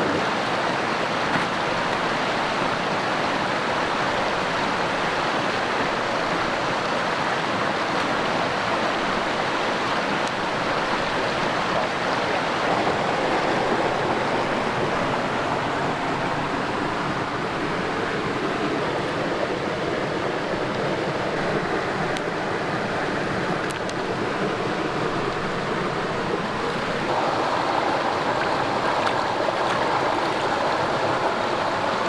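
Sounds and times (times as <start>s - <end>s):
creek rushing over boulders: 0.0s - 32.0s.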